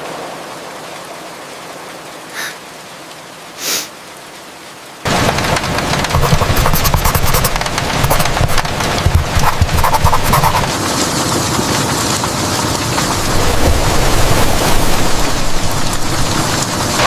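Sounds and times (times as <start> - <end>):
heavy downpour pattering: 0.0 - 17.0
soft steady rain: 0.0 - 17.0.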